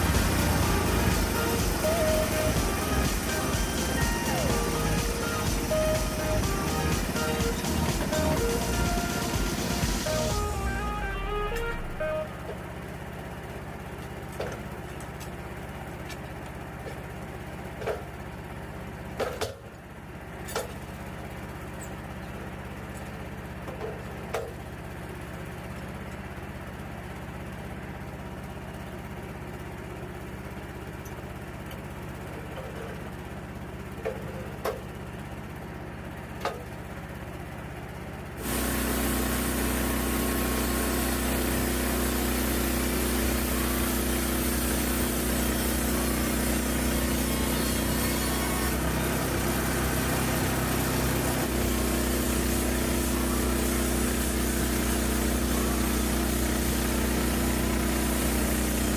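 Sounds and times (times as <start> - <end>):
gas engine idling and revving: 0.0 - 58.9.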